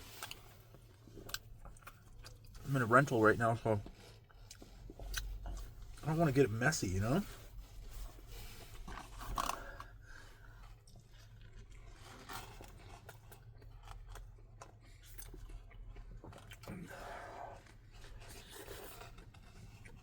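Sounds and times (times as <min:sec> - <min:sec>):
person chewing food: 0:00.0 - 0:02.7, 0:03.8 - 0:06.1, 0:07.4 - 0:20.0.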